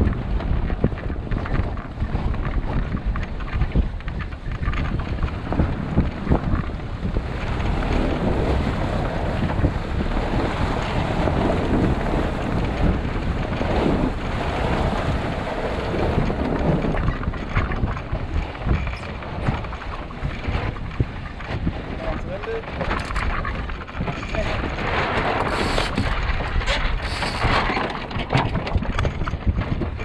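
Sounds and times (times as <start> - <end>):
water rushing along a hull: 0.0 - 30.0
wind buffeting the microphone: 0.0 - 30.0.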